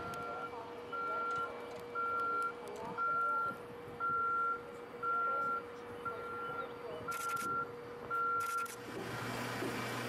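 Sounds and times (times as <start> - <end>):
backup alarm beeping: 0.0 - 8.7.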